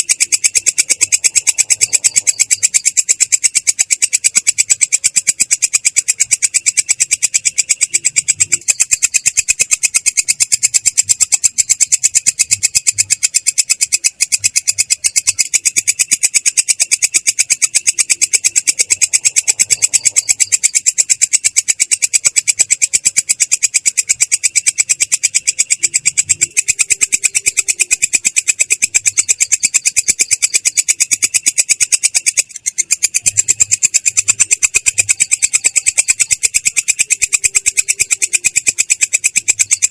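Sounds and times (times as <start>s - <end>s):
katydid trilling: 0.0s - 39.9s.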